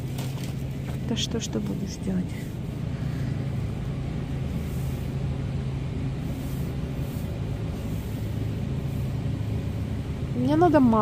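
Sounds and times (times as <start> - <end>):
low hum: 0.0 - 11.0
low rumble: 0.0 - 11.0.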